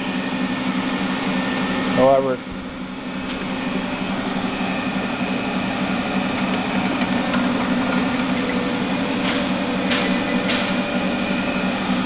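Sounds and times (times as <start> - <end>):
mill drill motor humming: 0.0 - 12.0.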